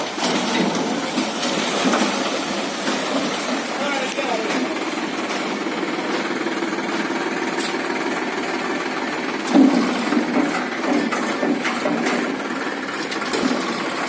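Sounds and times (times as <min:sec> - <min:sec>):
tractor diesel engine clattering: 0:00.0 - 0:14.0.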